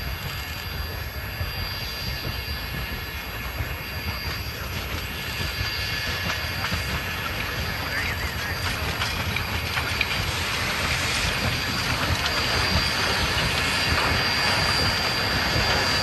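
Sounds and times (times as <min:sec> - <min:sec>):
steam hiss: 0:00.0 - 0:16.0
train rumbling on rails: 0:00.0 - 0:16.0.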